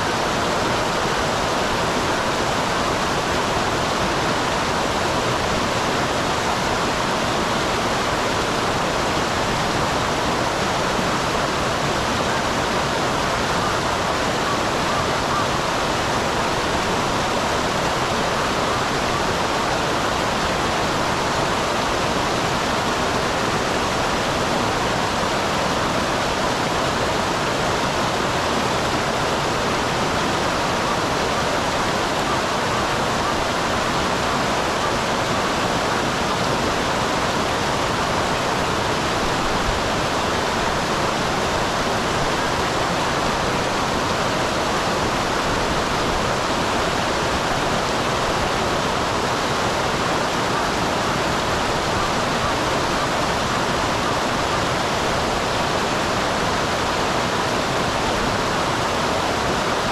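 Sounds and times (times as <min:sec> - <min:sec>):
waterfall pouring and splashing: 0:00.0 - 0:59.9.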